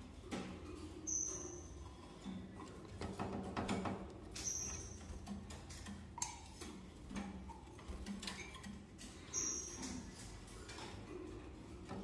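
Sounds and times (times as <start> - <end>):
cage birds chirping: 0.0 - 12.0
clicks and knocks of cages: 0.0 - 12.0.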